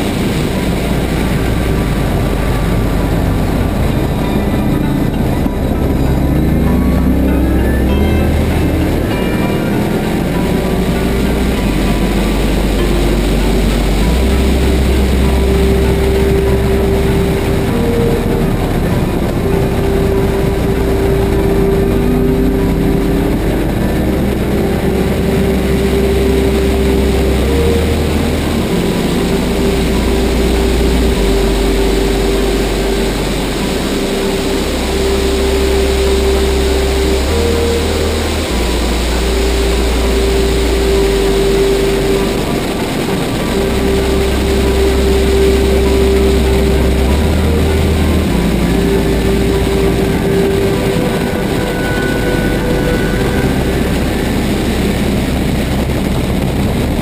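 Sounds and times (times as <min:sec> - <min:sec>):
heavy wind rush: 0:00.0 - 0:57.0.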